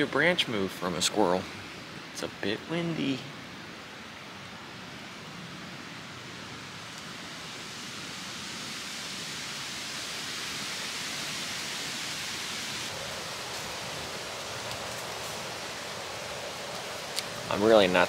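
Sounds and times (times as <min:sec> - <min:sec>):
wind rushing through leaves: 0:00.0 - 0:18.0.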